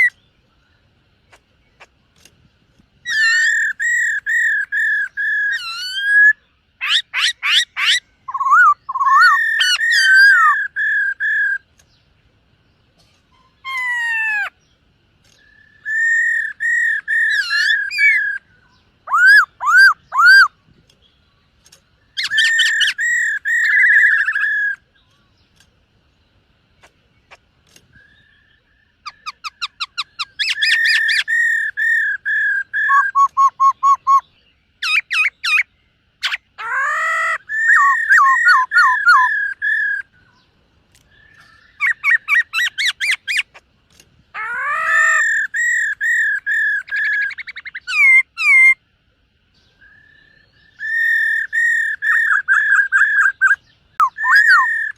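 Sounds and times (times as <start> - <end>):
bird singing whistled notes: 0.0 - 1.9, 3.0 - 12.2, 13.3 - 43.6, 44.4 - 48.9, 49.5 - 54.9.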